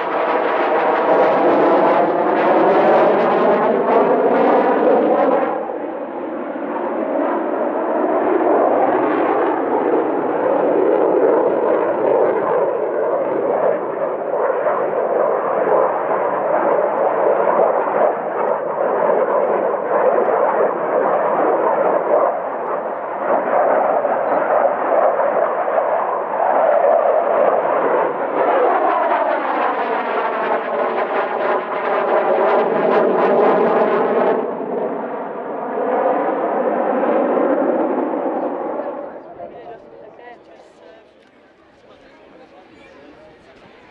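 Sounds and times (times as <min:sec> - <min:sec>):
fighter jet engines roaring: 0:00.0 - 0:43.9.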